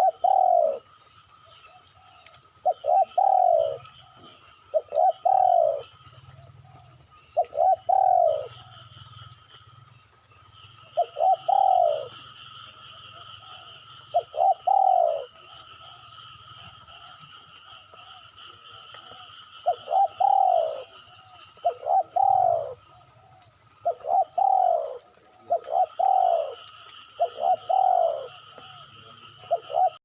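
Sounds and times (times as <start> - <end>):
dove cooing: 0.0 - 0.9, 1.6 - 9.3, 10.8 - 30.0.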